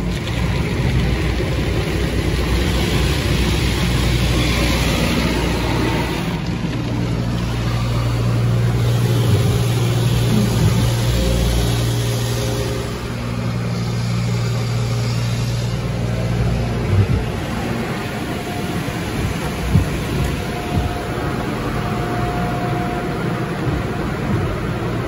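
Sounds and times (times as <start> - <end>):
low machinery hum: 0.0 - 25.0
water spraying over windshield: 0.0 - 25.0.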